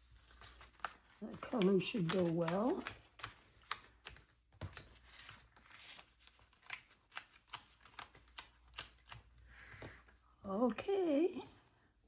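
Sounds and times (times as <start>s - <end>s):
paper rustling: 0.0s - 10.0s.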